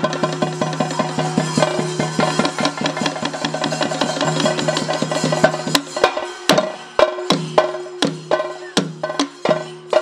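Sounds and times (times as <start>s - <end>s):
drums beating fast rhythm: 0.0s - 10.0s.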